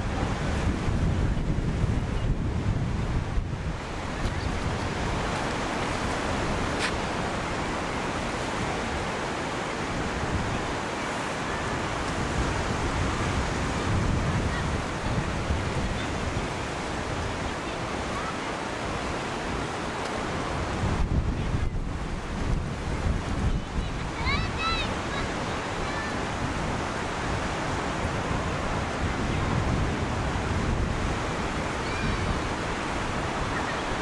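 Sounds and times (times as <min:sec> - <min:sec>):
surf breaking on beach: 0:00.0 - 0:34.0
wind buffeting microphone: 0:00.0 - 0:34.0.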